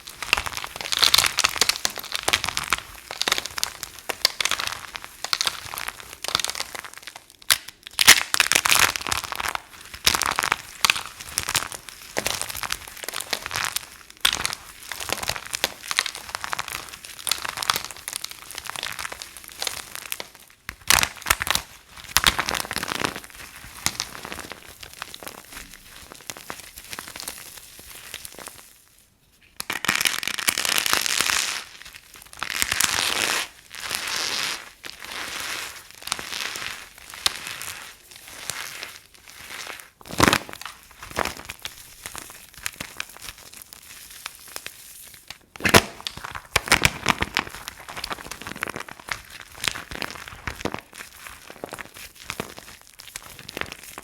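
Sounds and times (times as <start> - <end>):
dry soap crunching: 0.0 - 54.0.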